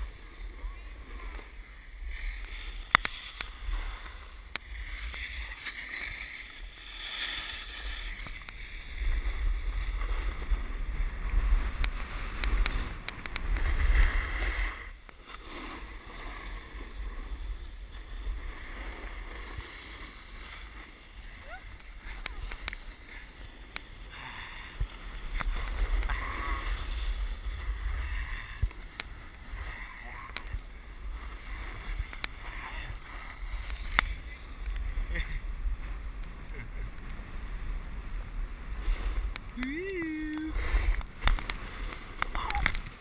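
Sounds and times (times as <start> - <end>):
snowboard edges scraping snow: 0.0 - 43.0
wind rumbling on microphone: 0.0 - 43.0.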